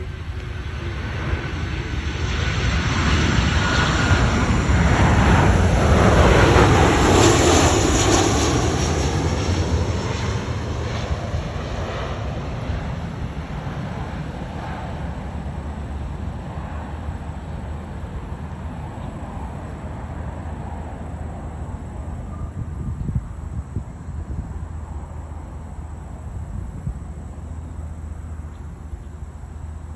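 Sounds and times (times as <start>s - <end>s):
jet plane landing: 0.0s - 29.9s.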